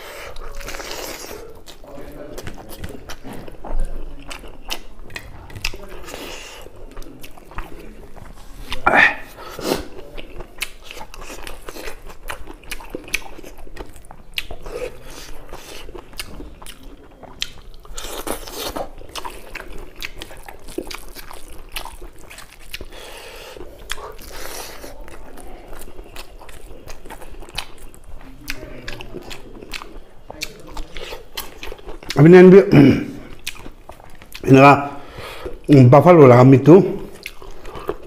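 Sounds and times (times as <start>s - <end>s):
chewing and crunching food: 0.0s - 38.0s.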